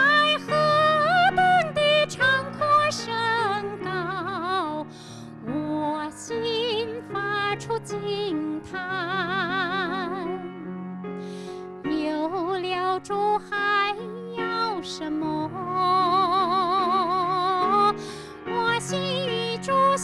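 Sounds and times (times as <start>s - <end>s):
woman singing into microphone: 0.0s - 10.6s, 11.9s - 20.0s.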